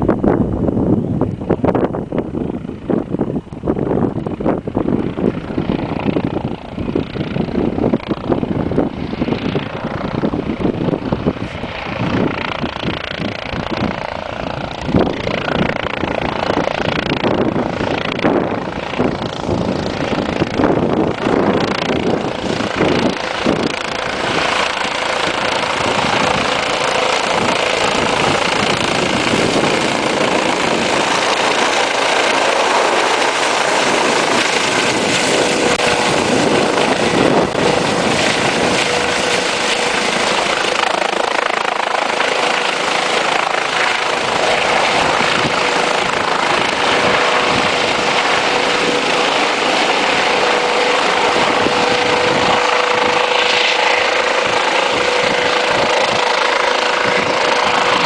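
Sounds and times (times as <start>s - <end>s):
helicopter rotor noise: 0.0s - 58.0s
high engine whine: 0.0s - 58.0s.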